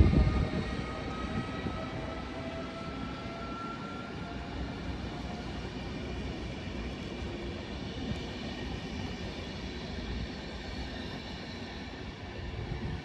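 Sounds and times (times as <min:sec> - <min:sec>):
passenger train whine and rumble: 0:00.0 - 0:13.0.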